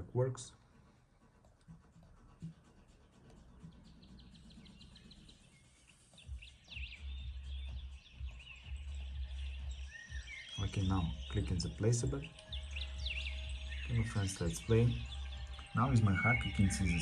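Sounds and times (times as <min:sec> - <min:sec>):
faint bird chirps: 0:03.2 - 0:17.0.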